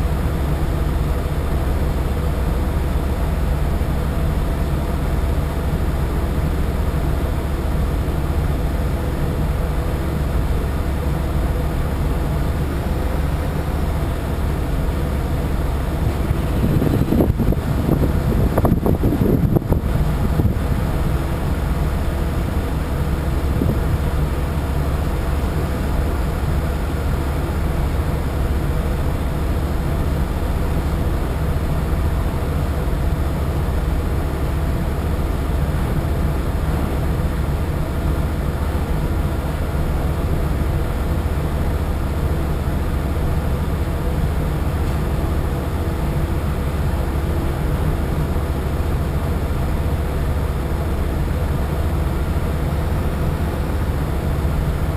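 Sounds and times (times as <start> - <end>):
boat engine running: 0.0 - 54.9.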